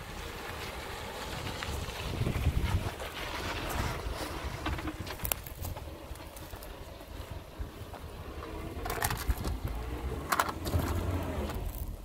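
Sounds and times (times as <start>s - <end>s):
wind buffeting microphone: 1.1s - 12.0s.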